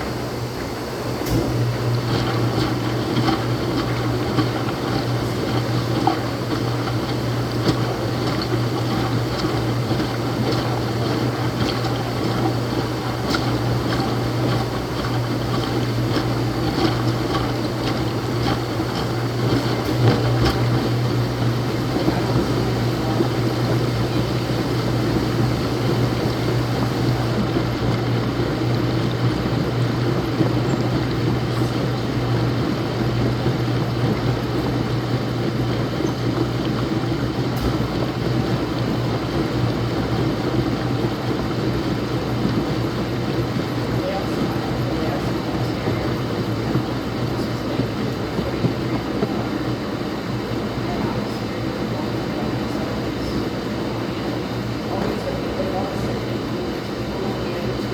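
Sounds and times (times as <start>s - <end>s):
washing machine running: 0.0s - 57.9s.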